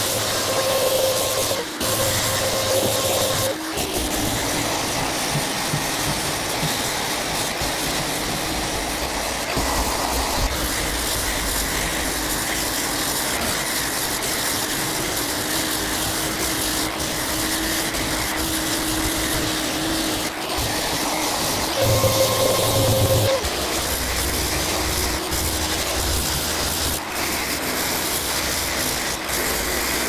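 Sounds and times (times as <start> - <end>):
dust extractor humming: 0.0 - 30.0
orbital sander running: 0.0 - 30.0.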